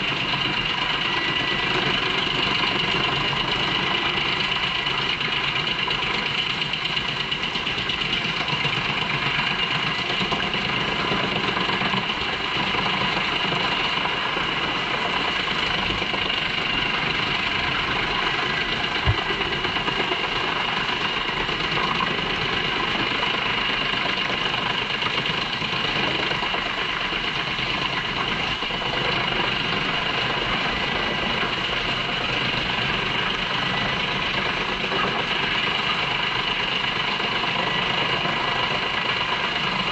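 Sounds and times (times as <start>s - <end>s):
wood chipper engine drone: 0.0s - 39.9s.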